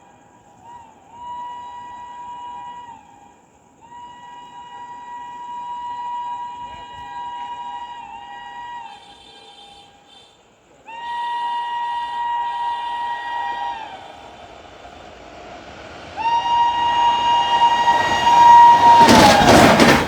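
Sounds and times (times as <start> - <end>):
shrill two-tone locomotive horn: 0.0 - 20.0.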